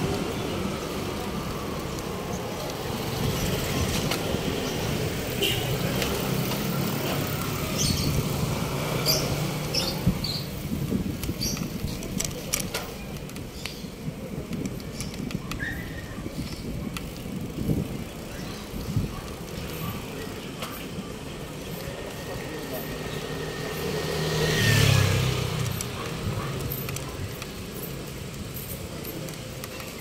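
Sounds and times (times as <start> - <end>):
street traffic rumbling: 0.0 - 30.0.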